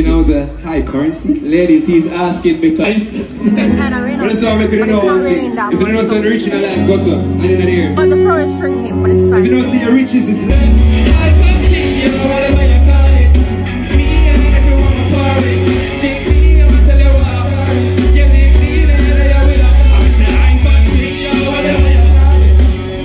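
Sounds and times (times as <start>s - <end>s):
heavy bass: 0.0s - 23.0s
live band with singer: 0.0s - 23.0s.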